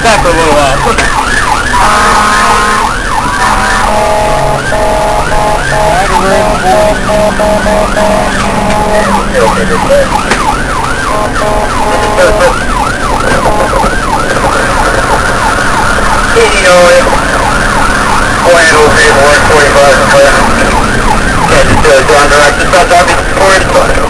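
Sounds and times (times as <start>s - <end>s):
ambulance siren yelping: 0.0s - 24.0s
two-tone siren notes: 0.0s - 24.0s
vehicle hum: 0.0s - 24.0s.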